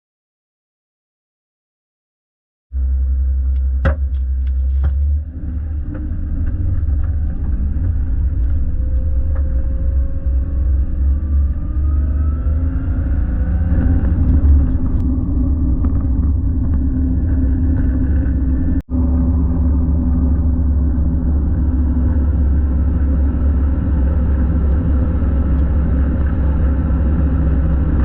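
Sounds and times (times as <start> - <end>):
vehicle driving with low rumble: 2.7 - 28.0
faint rising whine: 2.8 - 28.0.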